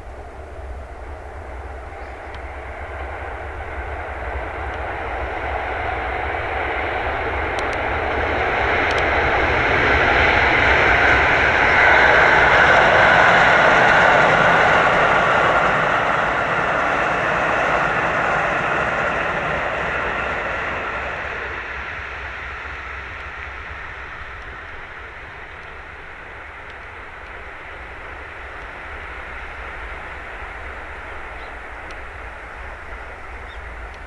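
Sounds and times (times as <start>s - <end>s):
electric train approaching: 0.0s - 34.0s.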